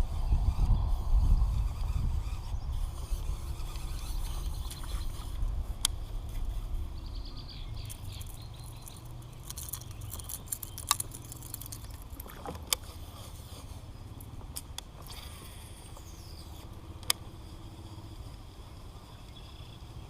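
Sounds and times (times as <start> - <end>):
wind rumbling on microphone: 0.0 - 17.4.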